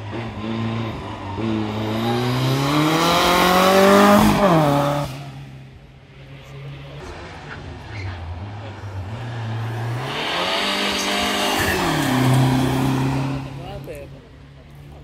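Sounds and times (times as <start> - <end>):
car accelerating past: 0.0 - 5.6, 6.7 - 13.9.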